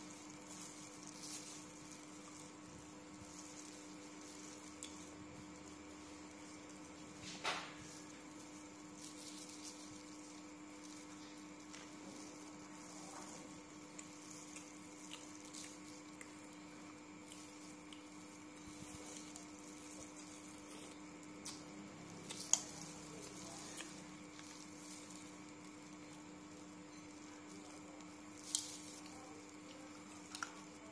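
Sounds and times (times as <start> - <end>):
shrimp shells crackling: 0.0 - 30.9
steady hum: 0.0 - 30.9.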